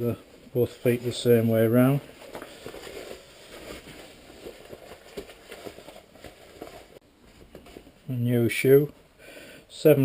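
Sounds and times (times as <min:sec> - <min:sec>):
faint rustling: 0:00.0 - 0:09.1.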